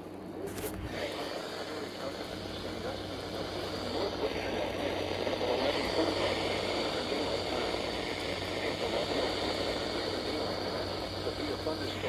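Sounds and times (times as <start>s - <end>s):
low steady hum: 0.0s - 12.0s
radio static hiss: 0.0s - 12.0s
faint garbled announcer voice: 0.4s - 12.0s.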